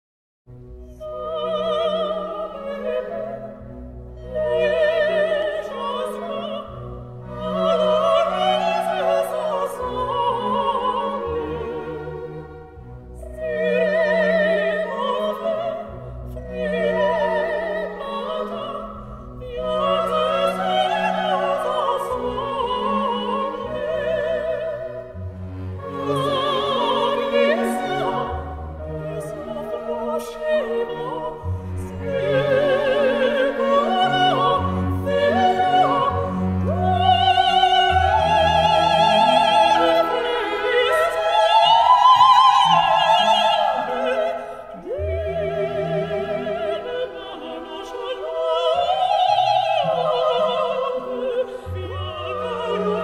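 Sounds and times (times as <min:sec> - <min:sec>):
orchestral accompaniment: 0:00.5 - 0:53.0
operatic singing: 0:00.9 - 0:53.0.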